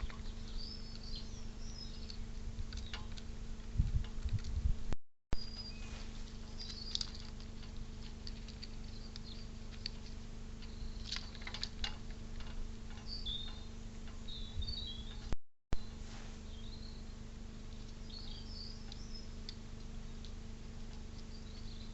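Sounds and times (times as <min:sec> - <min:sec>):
small birds chirping: 0:00.0 - 0:04.5, 0:05.4 - 0:21.9
low electrical hum: 0:00.0 - 0:21.9.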